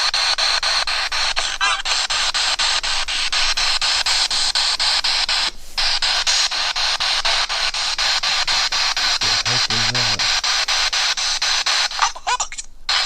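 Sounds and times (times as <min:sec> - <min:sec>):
snatch of radio sound: 0:00.0 - 0:12.1
radio static hiss: 0:00.0 - 0:13.0.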